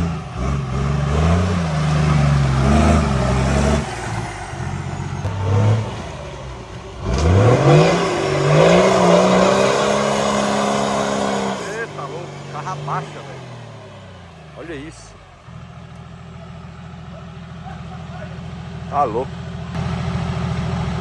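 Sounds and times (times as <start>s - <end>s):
off-road engine revving: 0.0s - 21.0s.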